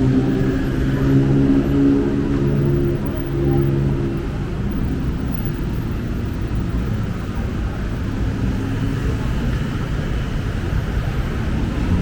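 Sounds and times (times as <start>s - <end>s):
traffic rumble: 0.0s - 12.0s
vehicle engine humming close by: 0.0s - 12.0s.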